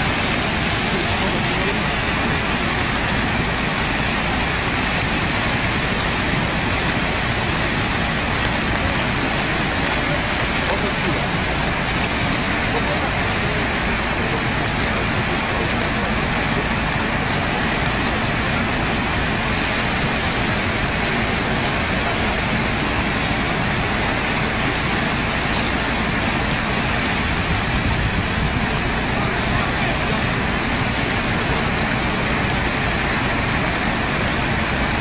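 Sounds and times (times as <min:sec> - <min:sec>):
flood river roaring: 0:00.0 - 0:35.0.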